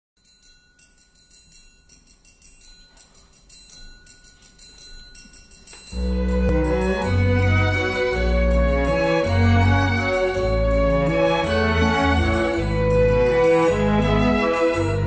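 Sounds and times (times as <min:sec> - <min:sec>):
bell-like tinkling: 0:00.2 - 0:15.0.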